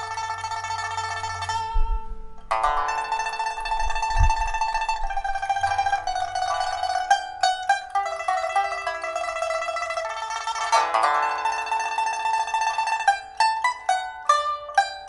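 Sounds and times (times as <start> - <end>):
pipa struck chords: 0.0 - 15.0
pipa tremolo melody: 0.0 - 15.0.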